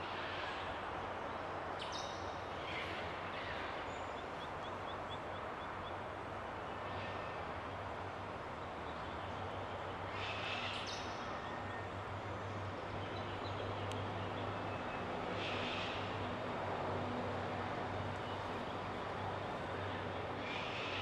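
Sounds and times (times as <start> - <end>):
outdoor background rush: 0.0 - 21.0.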